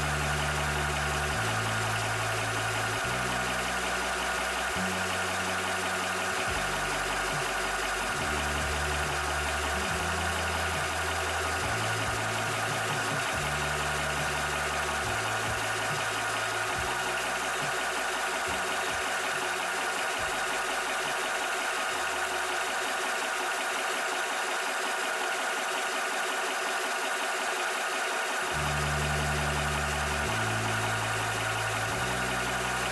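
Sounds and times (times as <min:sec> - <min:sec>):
air compressor humming and whining: 0:00.0 - 0:32.9.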